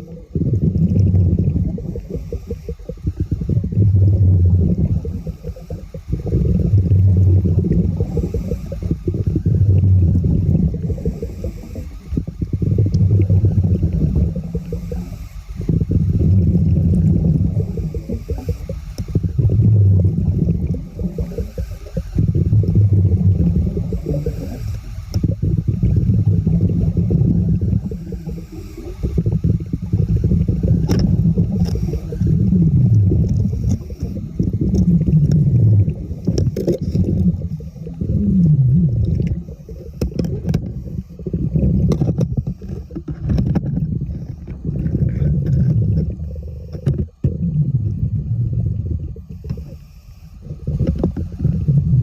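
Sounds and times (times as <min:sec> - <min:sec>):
underwater gurgling rumble: 0:00.0 - 0:52.0.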